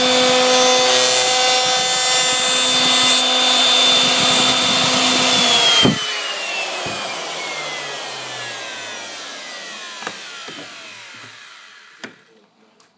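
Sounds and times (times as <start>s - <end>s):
router motor winding down: 0.0s - 12.3s.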